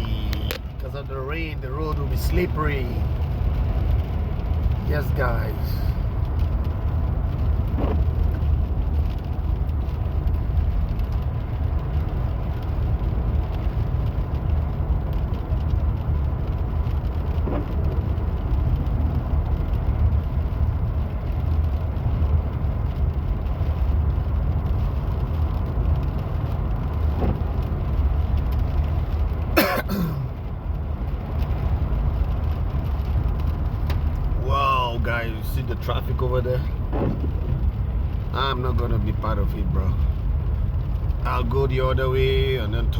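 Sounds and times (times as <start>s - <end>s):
car engine and tyres rumble: 0.0s - 42.9s.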